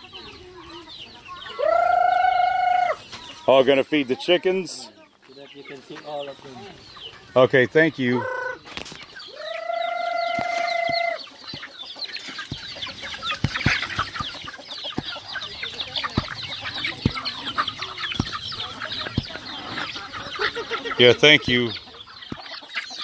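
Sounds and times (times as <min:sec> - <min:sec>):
chickens clucking: 0:00.0 - 0:23.0
chicks peeping: 0:00.0 - 0:23.0.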